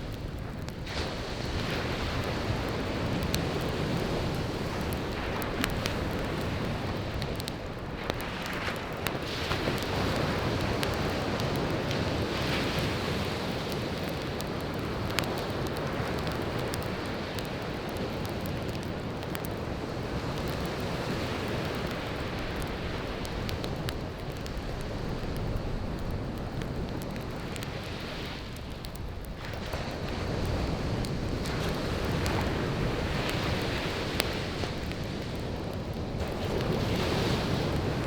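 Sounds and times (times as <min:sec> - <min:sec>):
campfire crackling and popping: 0:00.0 - 0:38.0
surf washing onto beach: 0:00.0 - 0:38.0.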